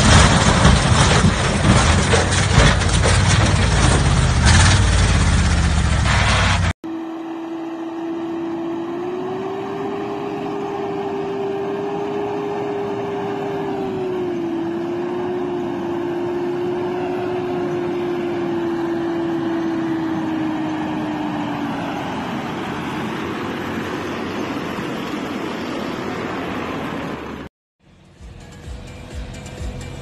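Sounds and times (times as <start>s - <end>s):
truck engine whining: 0.0s - 30.0s.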